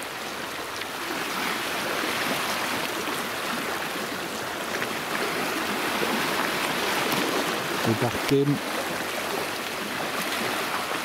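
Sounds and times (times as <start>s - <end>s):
small waves lapping at shore: 0.0s - 11.0s.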